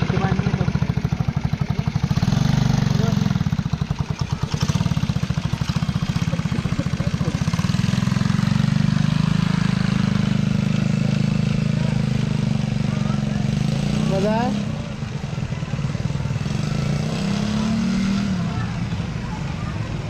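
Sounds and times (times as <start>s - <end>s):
engine running with fast pulsing: 0.0s - 20.0s.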